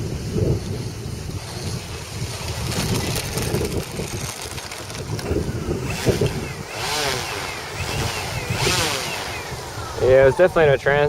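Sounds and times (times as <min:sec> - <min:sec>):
wind buffeting microphone: 0:00.0 - 0:11.0
model plane electric motor whine: 0:00.4 - 0:10.2.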